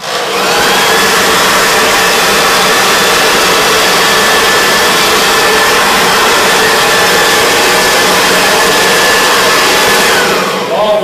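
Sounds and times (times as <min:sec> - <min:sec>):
leaf blower running: 0:00.0 - 0:11.0.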